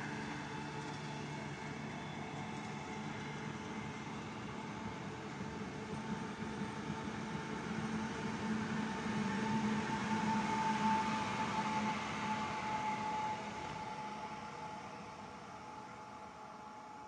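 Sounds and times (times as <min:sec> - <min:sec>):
electric train humming and whining: 0:00.0 - 0:17.0
train running noise: 0:00.0 - 0:17.0.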